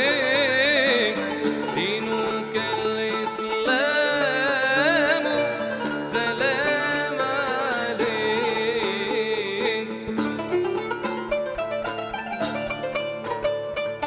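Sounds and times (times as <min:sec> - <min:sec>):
ornamented melodic line with vibrato: 0:00.0 - 0:14.0
plucked qanun and oud: 0:00.0 - 0:14.0.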